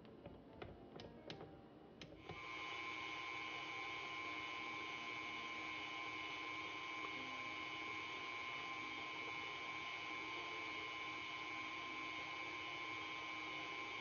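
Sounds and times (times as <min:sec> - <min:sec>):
stand mixer motor whining: 0:02.2 - 0:14.0.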